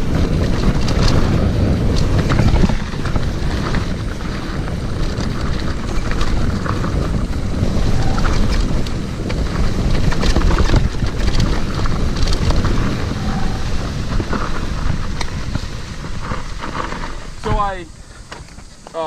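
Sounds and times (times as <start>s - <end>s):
wind buffeting microphone: 0.0s - 18.9s
bike rattling and clicking: 0.0s - 19.0s
tyres on bumpy dirt trail: 0.0s - 19.0s.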